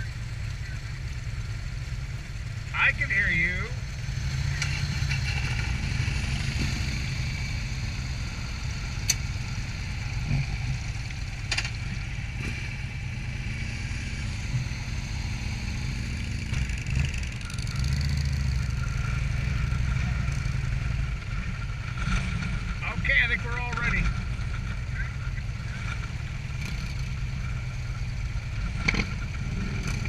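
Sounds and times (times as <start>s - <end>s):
motorcycle engine rumbling: 0.0s - 30.0s.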